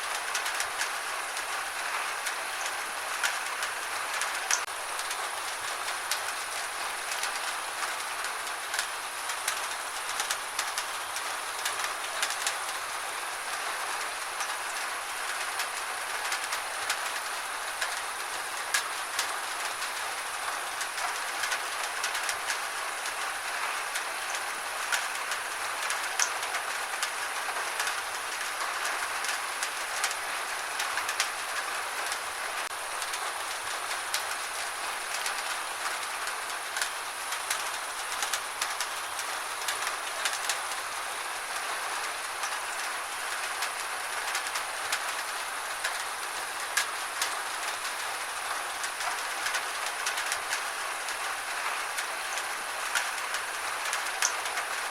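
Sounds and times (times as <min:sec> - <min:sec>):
gentle rain falling: 0:00.0 - 0:54.9.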